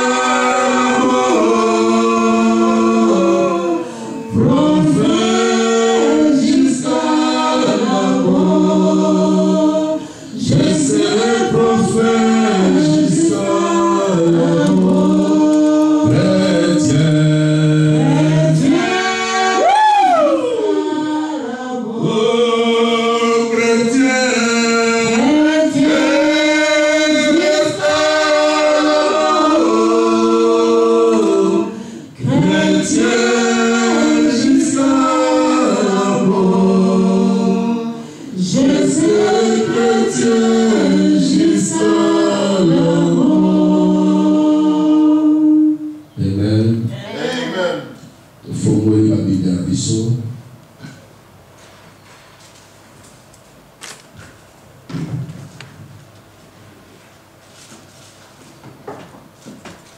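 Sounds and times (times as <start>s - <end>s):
voices singing a worship song: 0.0s - 53.4s.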